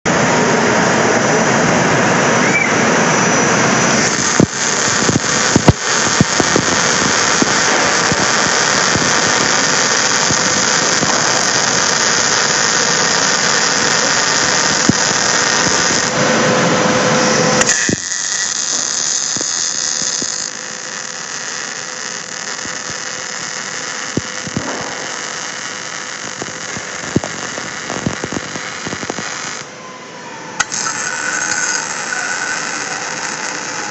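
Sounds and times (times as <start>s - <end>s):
welding arc hiss: 2.9s - 16.2s, 17.2s - 29.7s, 30.6s - 33.9s
sharp crackling pops: 3.8s - 16.2s, 17.6s - 29.7s, 30.6s - 33.9s.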